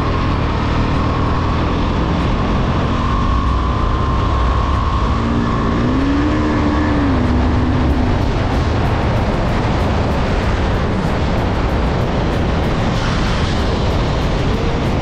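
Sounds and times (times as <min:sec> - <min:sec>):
motorcycle engine accelerating: 0:00.0 - 0:15.0
wind rush on microphone: 0:00.0 - 0:15.0.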